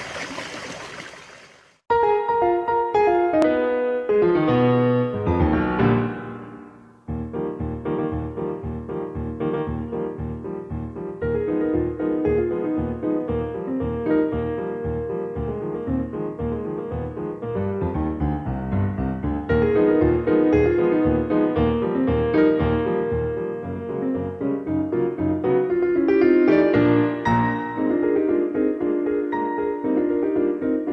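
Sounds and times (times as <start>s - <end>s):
piano music: 1.9s - 30.9s.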